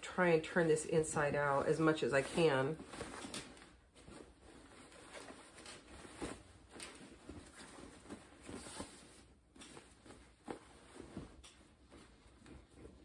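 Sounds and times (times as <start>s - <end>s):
fabric rustling: 0.1s - 13.0s.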